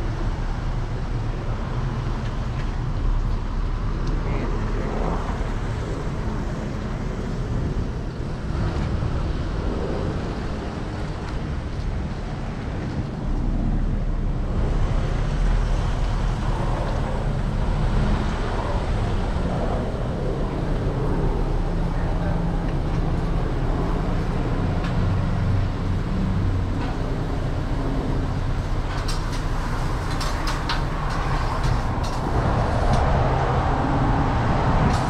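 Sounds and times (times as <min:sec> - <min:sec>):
wind noise on microphone: 0:00.0 - 0:35.0.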